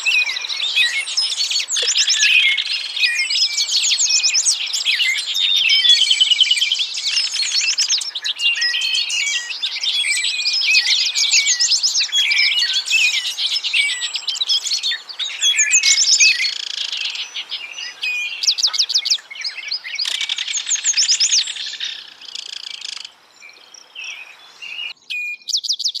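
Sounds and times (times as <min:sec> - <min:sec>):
songbirds singing and chirping: 0:00.0 - 0:26.0.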